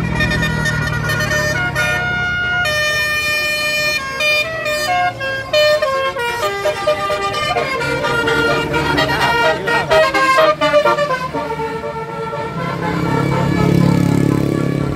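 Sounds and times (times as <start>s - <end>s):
musical bus horn playing tune: 0.0s - 14.9s.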